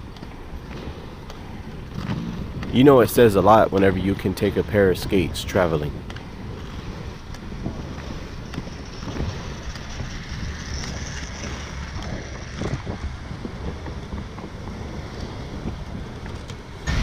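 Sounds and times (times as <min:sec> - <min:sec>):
skate wheels rolling on pavement: 0:00.0 - 0:17.0
wind on microphone: 0:00.0 - 0:17.0.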